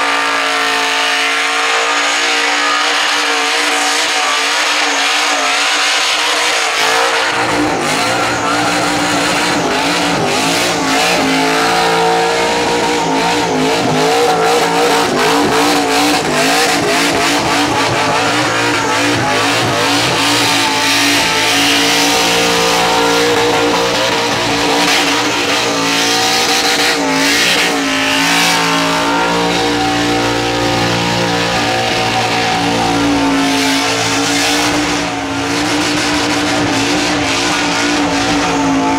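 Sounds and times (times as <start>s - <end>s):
car engine at high revs: 0.0s - 38.9s
tyres squealing: 2.0s - 38.9s.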